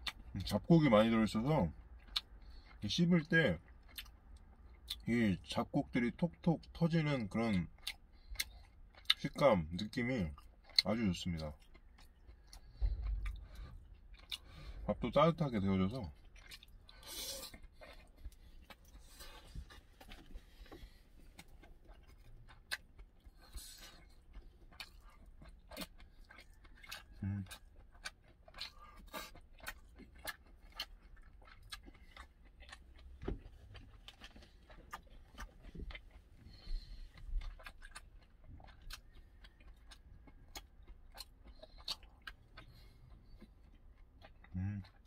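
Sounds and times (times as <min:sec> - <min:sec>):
person chewing: 0:00.0 - 0:00.6, 0:01.6 - 0:05.1, 0:07.4 - 0:45.0.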